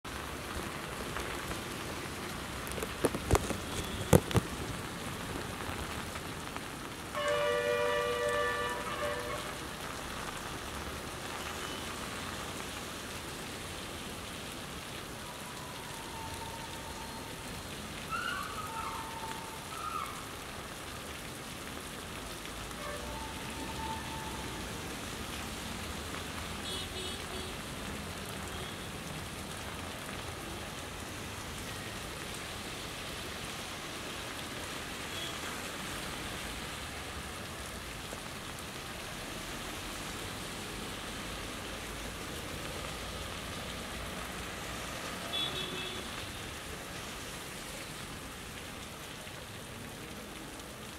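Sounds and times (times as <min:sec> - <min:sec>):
rain on a wet road: 0:00.0 - 0:50.9.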